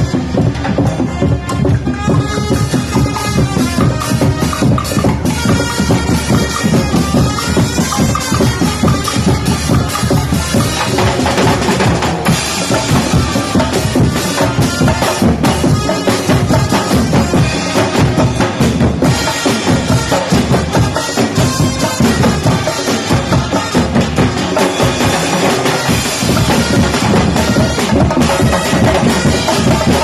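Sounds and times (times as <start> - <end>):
bass drum beats: 0.0 - 30.0
drum group playing: 0.0 - 30.0.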